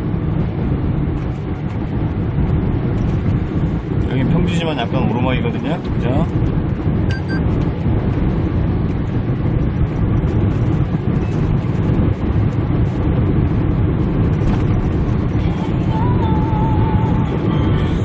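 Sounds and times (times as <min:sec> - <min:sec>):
truck engine and tyre drone: 0:00.0 - 0:18.0.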